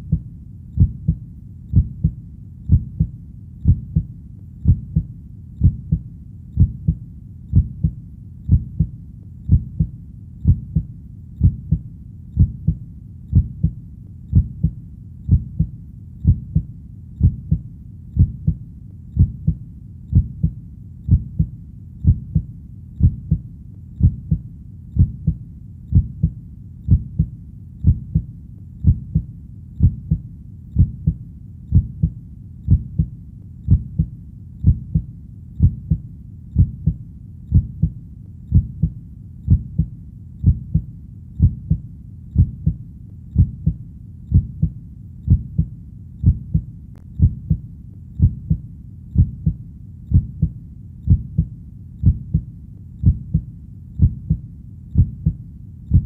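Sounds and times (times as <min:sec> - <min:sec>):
heartbeat double thump: 0:00.8 - 0:06.0, 0:06.6 - 0:08.9, 0:09.5 - 0:11.8, 0:12.4 - 0:17.6, 0:18.2 - 0:18.6, 0:19.2 - 0:23.4, 0:24.0 - 0:24.4, 0:25.0 - 0:30.2, 0:30.8 - 0:33.1, 0:33.7 - 0:36.0, 0:36.6 - 0:41.8, 0:42.4 - 0:42.8, 0:43.4 - 0:47.6, 0:48.2 - 0:48.6, 0:49.2 - 0:54.4, 0:55.0 - 0:56.0.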